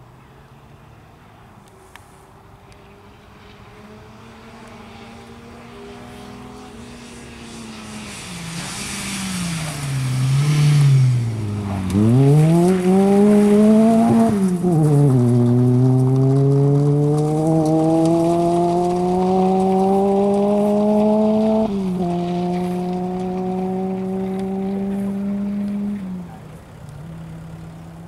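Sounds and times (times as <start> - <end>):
rally car engine: 2.6 - 28.0.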